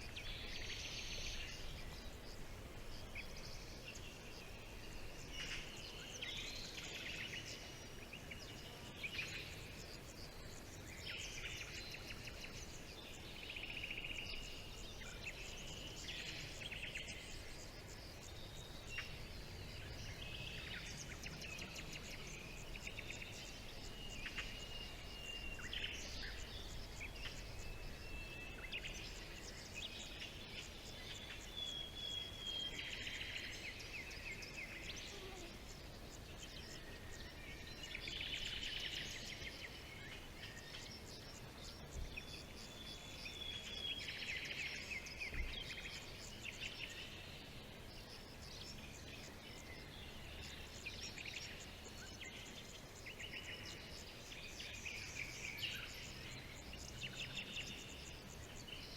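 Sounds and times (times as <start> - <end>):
birdsong whistles and trills: 0.0 - 58.9
faint background hiss: 0.0 - 58.9.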